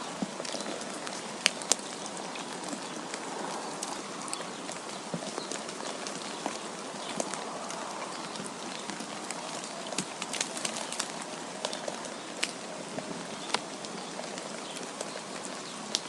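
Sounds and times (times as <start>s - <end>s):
wind and precipitation hiss: 0.0s - 16.0s.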